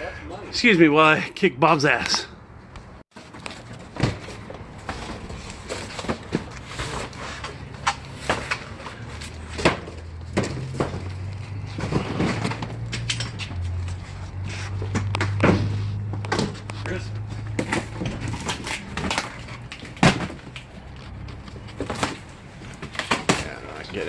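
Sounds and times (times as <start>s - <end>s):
boxes being handled and moved: 3.1s - 24.0s.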